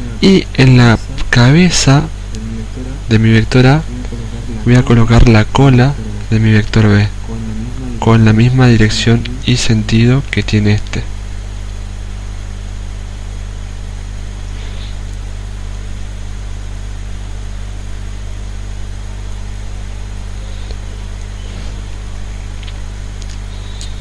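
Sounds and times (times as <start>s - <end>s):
low hum with hiss: 0.0s - 24.0s.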